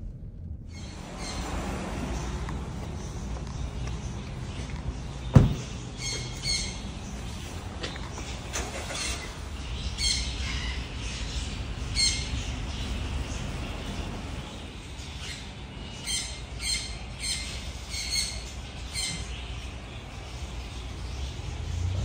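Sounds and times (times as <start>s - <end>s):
low steady rumble: 0.0s - 22.0s
birds chirping and squawking: 0.7s - 22.0s.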